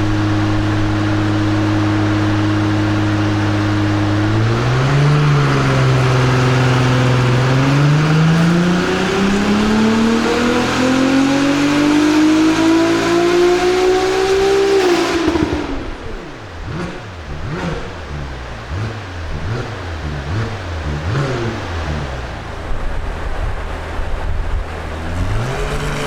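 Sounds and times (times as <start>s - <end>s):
car engine revving on dyno: 0.0s - 26.0s.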